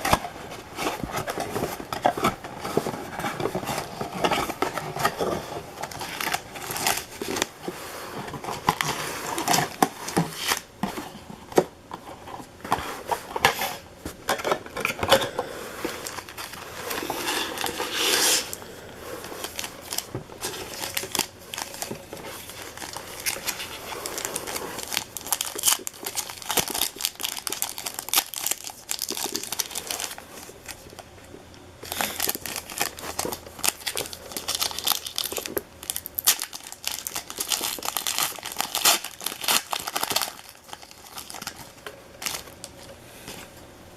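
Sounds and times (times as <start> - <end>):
wrappers crinkling and tearing: 0.0 - 10.7, 15.9 - 31.1, 31.8 - 42.9.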